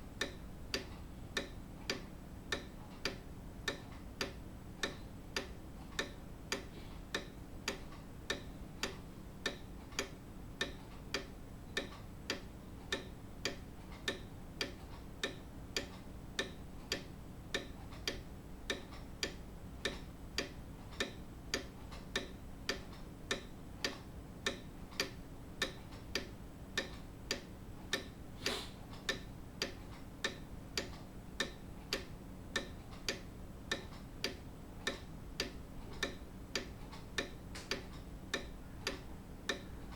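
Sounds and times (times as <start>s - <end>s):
clock ticking: 0.0s - 28.2s, 29.0s - 39.9s.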